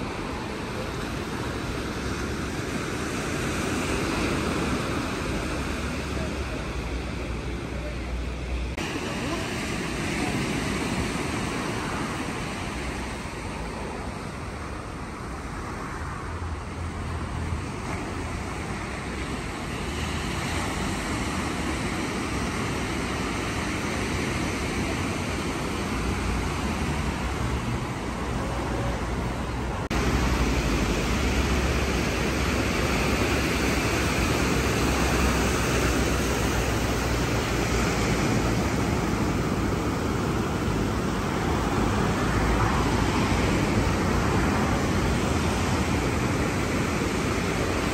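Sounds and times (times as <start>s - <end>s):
ocean surf rushing: 0.0s - 47.9s
wind rumbling on microphone: 0.0s - 47.9s.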